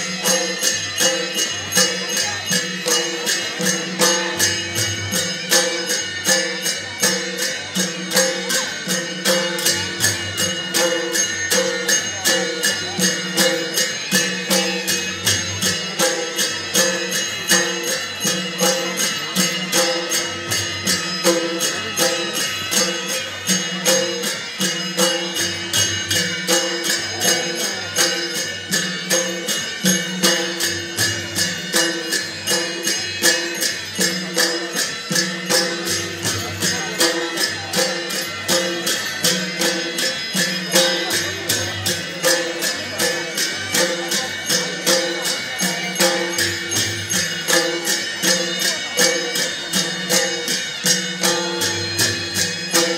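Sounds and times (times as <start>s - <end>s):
drums: 0.0s - 52.9s
jingling metal percussion: 0.0s - 52.9s.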